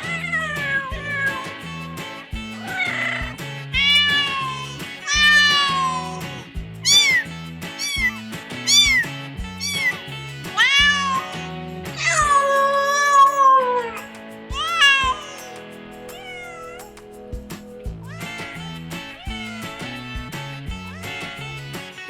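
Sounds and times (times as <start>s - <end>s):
cat meowing: 0.0s - 6.2s, 6.8s - 14.0s, 14.6s - 17.2s, 17.9s - 22.0s
background music with steady beat: 0.0s - 22.0s.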